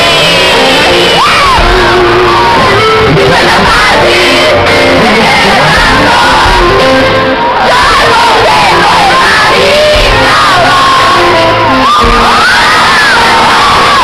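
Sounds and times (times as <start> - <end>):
crowd singing and shouting: 0.0 - 14.0
live band playing: 0.0 - 14.0
singer on a microphone: 0.0 - 14.0.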